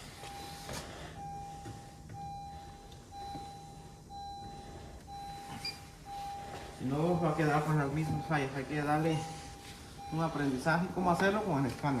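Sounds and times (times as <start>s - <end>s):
electronic warning beep: 0.0s - 12.0s.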